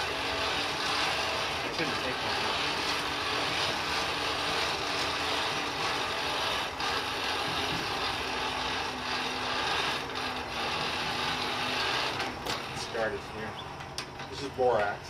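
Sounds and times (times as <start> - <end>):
hand-cranked blower whirring: 0.0 - 15.0.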